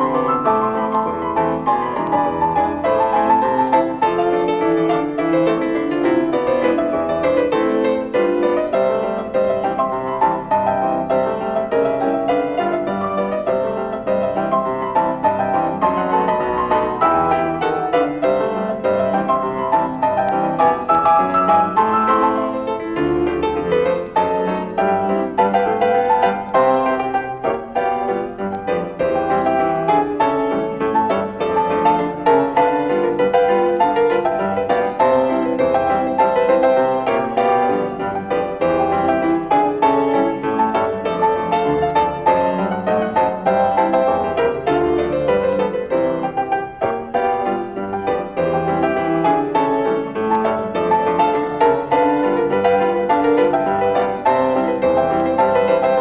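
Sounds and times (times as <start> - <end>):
silent film piano music: 0.0 - 56.0.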